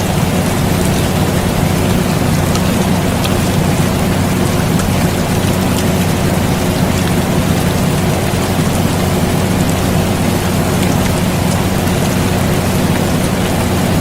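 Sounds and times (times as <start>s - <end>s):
air conditioner humming: 0.0s - 14.0s
steady rain: 0.0s - 14.0s.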